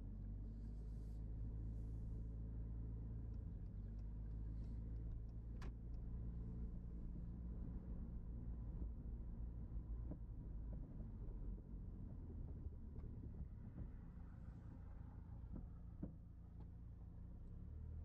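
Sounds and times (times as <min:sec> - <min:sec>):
car engine and tyres rumble: 0:00.0 - 0:18.0.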